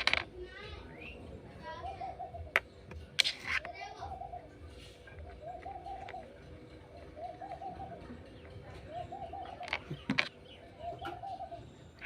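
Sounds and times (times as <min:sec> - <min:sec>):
dove cooing: 0:01.6 - 0:02.8, 0:03.4 - 0:12.0.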